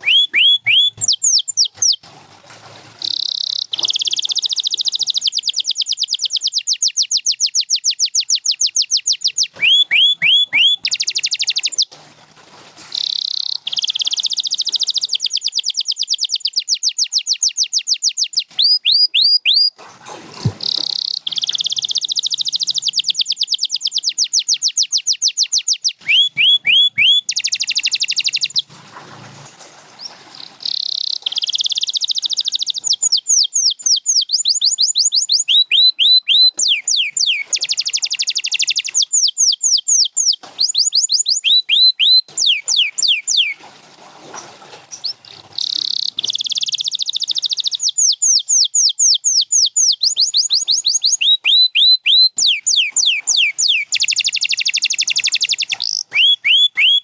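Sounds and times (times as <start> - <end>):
canary singing: 0.0 - 2.0, 3.0 - 12.0, 12.9 - 19.8, 20.5 - 28.7, 29.9 - 43.6, 44.9 - 57.0.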